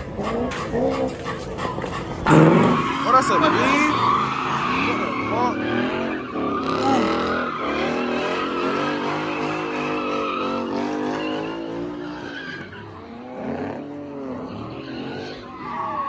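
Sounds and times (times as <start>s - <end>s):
tyres squealing: 0.0s - 13.6s, 14.2s - 16.0s
car engine revving: 0.0s - 16.0s.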